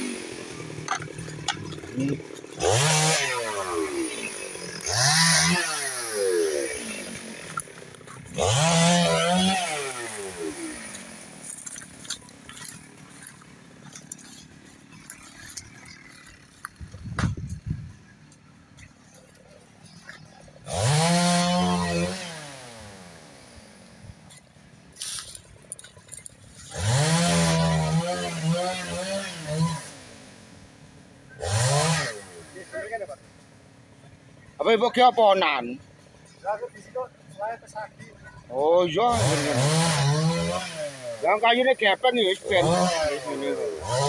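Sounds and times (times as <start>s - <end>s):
chainsaw engine revving and idling: 0.0s - 44.0s.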